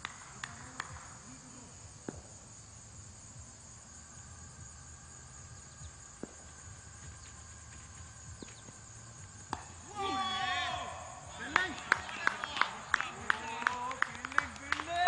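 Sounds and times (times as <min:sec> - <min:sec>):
faint open-air hiss: 0:00.0 - 0:15.0
insect chorus drone: 0:00.0 - 0:15.0.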